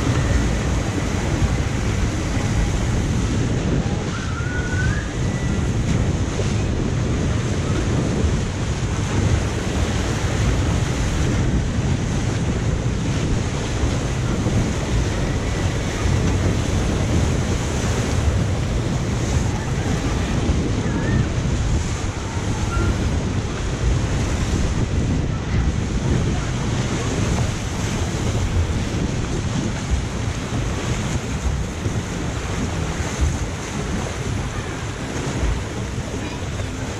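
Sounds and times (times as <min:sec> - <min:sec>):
water rushing and splashing: 0:00.0 - 0:36.9
wind buffeting microphone: 0:00.0 - 0:36.9.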